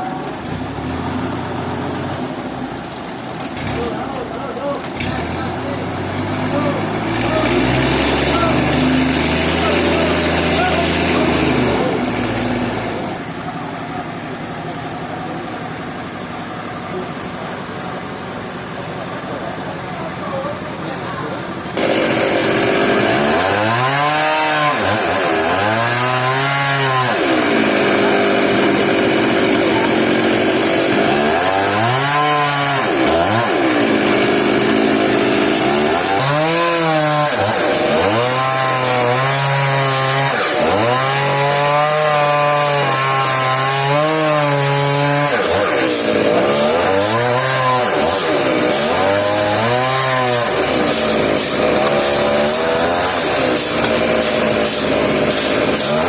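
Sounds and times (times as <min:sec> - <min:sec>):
chainsaw engine revving: 0:00.0 - 0:17.8, 0:18.5 - 0:56.0.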